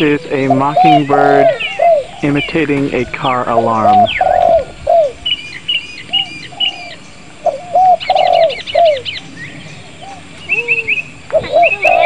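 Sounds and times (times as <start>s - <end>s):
birds whistling: 0.0s - 12.0s
high bird chirping: 0.0s - 12.0s.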